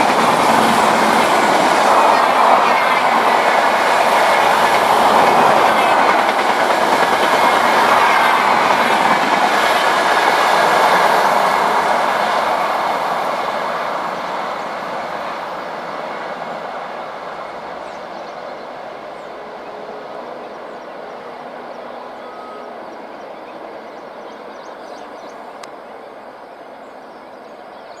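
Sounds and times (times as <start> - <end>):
passenger train rolling on track: 0.0 - 28.0.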